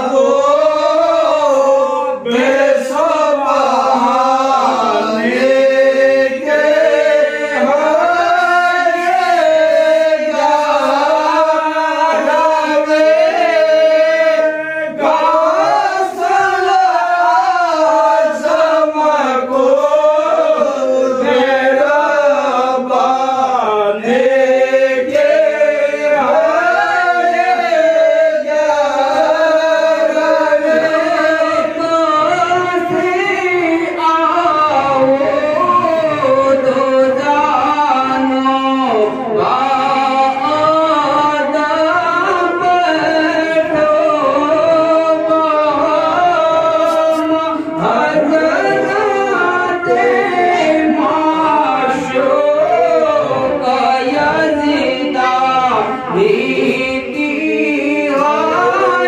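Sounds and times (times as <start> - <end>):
men chanting a hymn: 0.0 - 59.0.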